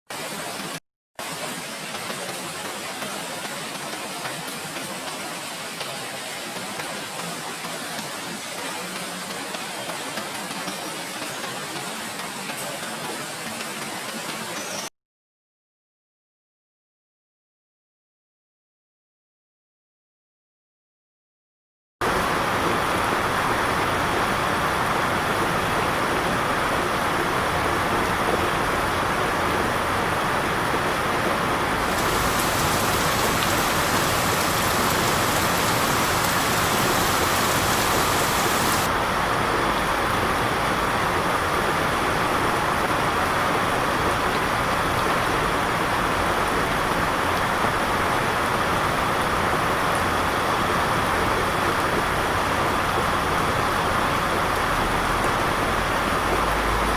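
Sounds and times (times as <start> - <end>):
steady rain falling: 0.1 - 14.6, 22.0 - 56.9.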